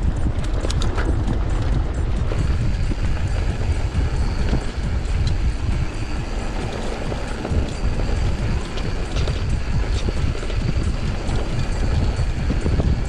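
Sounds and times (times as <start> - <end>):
bike rattling and knocking: 0.0 - 13.0
bike tyres rolling on dirt: 0.0 - 13.0
wind rumble on microphone: 0.0 - 13.0.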